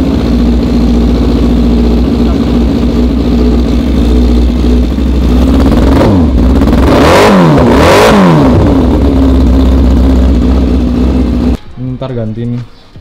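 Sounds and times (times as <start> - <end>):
misfiring motorcycle engine revving: 0.0 - 11.6.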